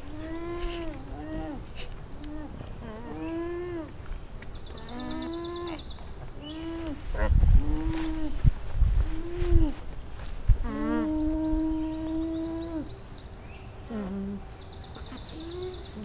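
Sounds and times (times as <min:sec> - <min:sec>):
alpacas humming: 0:00.0 - 0:04.1, 0:04.7 - 0:09.9, 0:10.5 - 0:13.0, 0:13.8 - 0:16.0
low microphone rumble: 0:00.0 - 0:16.0.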